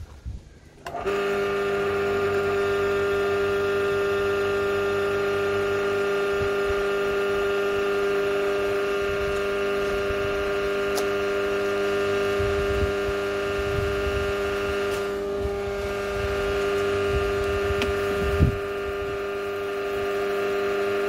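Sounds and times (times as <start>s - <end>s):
electric drill motor humming: 0.8s - 21.0s.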